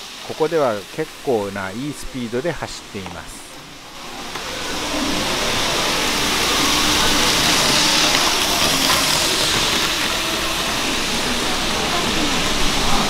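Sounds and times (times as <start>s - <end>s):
model train wheels rolling on rails: 0.0s - 13.0s.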